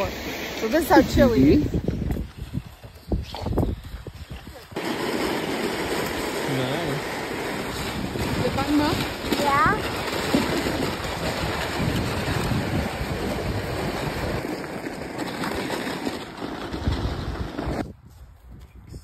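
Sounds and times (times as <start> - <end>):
wind on microphone: 0.0 - 4.9, 5.5 - 15.1, 16.4 - 19.0
sled sliding over snow: 0.0 - 17.9.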